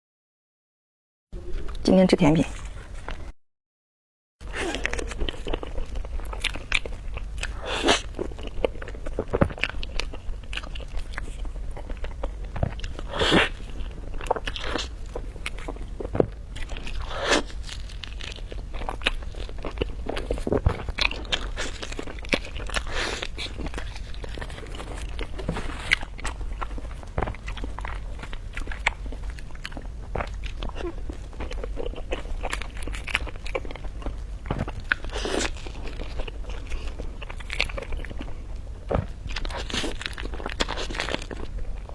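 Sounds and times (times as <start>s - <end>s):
person chewing crunchy food: 4.4s - 41.9s.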